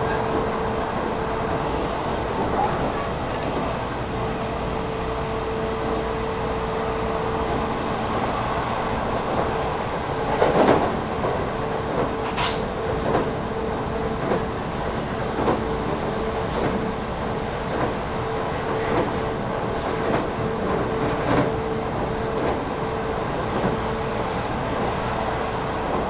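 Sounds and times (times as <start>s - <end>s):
train interior rumble: 0.0s - 26.0s.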